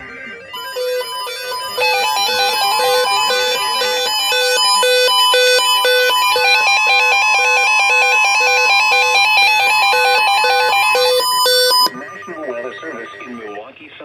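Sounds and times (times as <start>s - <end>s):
held electronic tone: 0.0s - 13.7s
electronic beeping tune: 0.0s - 13.8s.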